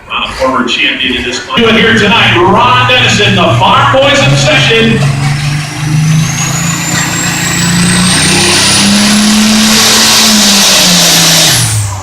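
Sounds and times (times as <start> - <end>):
high whine: 0.0 - 12.0
tractor engine at full power: 0.0 - 12.0.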